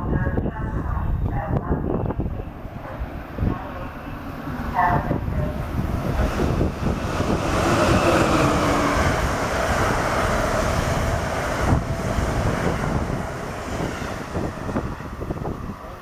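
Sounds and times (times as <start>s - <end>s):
train passing at speed: 0.0s - 16.0s
wind buffeting microphone: 0.0s - 16.0s.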